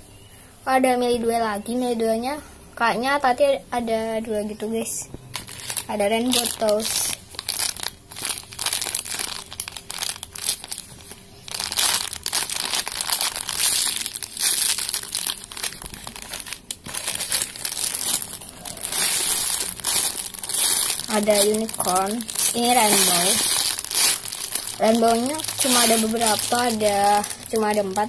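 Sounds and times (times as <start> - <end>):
plastic bags crinkling: 5.3 - 28.0.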